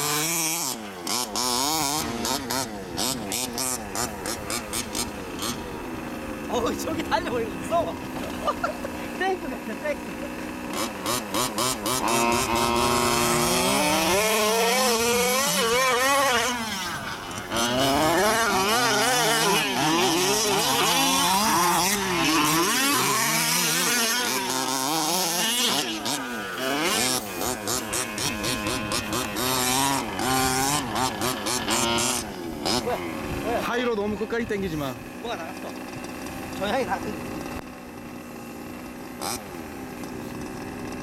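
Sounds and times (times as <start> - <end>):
two-stroke engine revving: 0.0 - 41.0.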